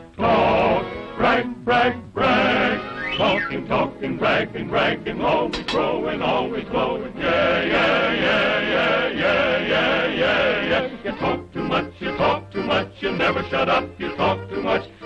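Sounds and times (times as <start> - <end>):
male chorus chanting to music: 0.0 - 15.0.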